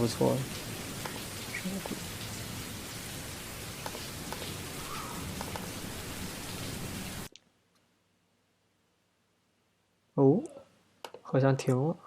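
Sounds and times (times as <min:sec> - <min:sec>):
recorded rain hiss: 0:00.0 - 0:12.0.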